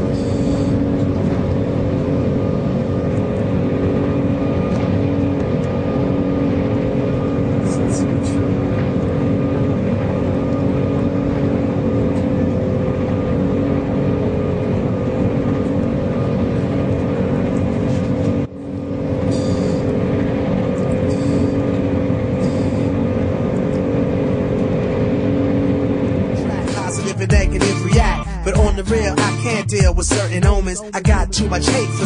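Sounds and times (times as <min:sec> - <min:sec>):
jet engines roaring in cabin: 0:00.0 - 0:32.0.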